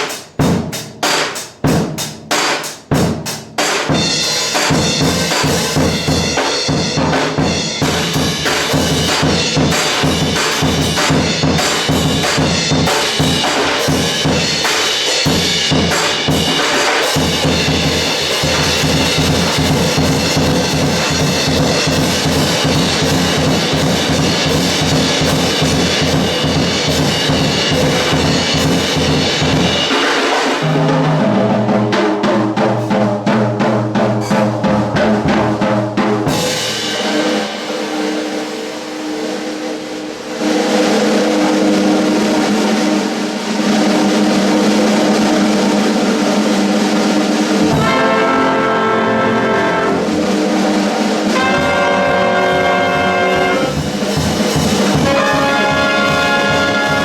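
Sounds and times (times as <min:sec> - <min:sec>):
big band playing swing: 0:00.0 - 0:57.0.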